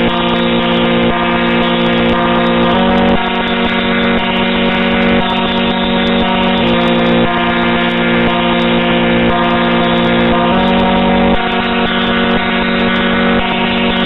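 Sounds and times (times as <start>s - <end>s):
buzzy computer-generated tones: 0.0s - 14.0s.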